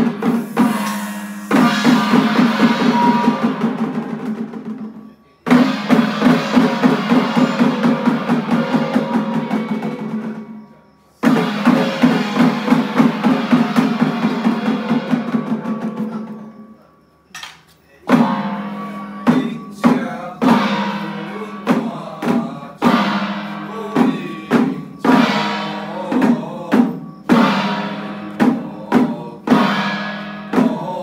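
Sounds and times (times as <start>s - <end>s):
fast drum percussion music: 0.0s - 16.6s, 18.1s - 31.0s.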